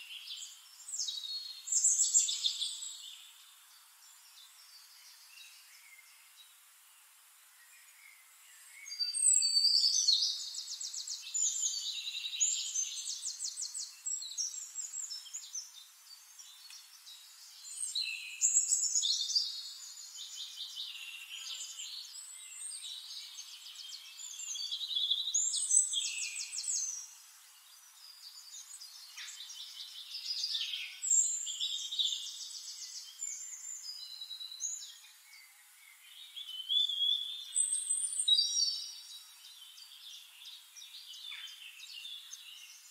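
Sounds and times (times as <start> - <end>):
songbirds trilling and chirping: 0.0 - 42.9.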